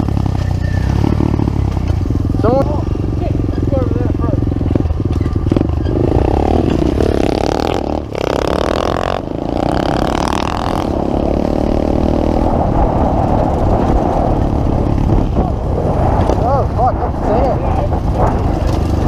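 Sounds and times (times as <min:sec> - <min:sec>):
pit bike engine accelerating: 0:00.0 - 0:19.0.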